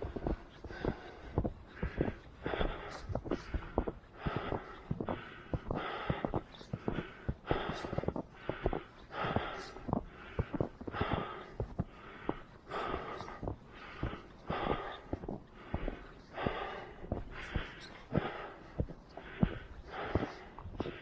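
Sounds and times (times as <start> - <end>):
runner breathing rhythmically: 0.0 - 21.0.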